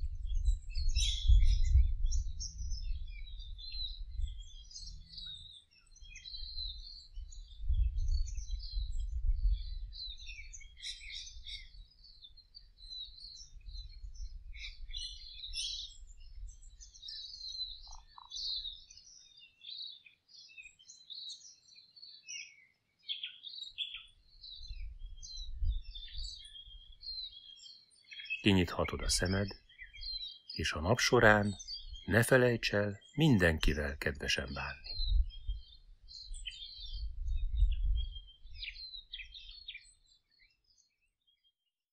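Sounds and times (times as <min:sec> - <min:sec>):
birds chirping: 0:00.1 - 0:40.9.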